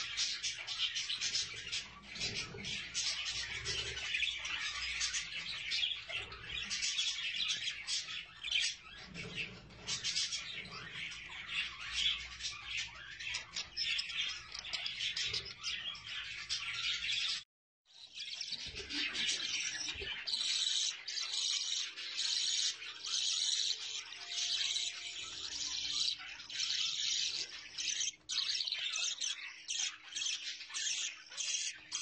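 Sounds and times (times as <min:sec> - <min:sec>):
budgerigars chattering and warbling: 0:00.0 - 0:17.4, 0:18.0 - 0:32.0.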